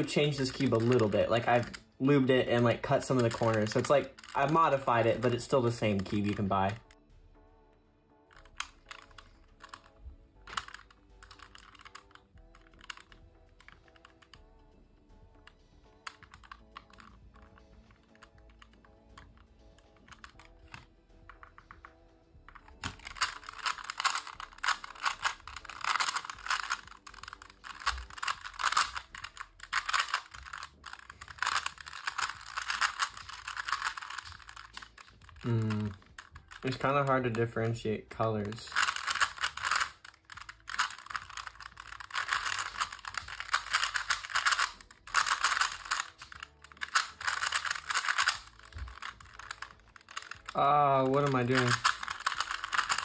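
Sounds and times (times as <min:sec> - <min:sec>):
puzzle cube clicking and clacking: 0:00.0 - 0:07.0, 0:08.3 - 0:14.5, 0:15.3 - 0:53.0.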